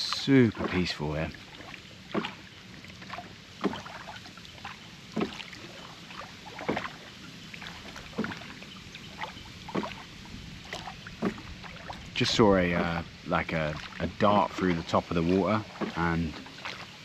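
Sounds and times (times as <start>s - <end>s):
faint water hiss: 0.0s - 17.0s
oars splashing and knocking: 0.0s - 17.0s.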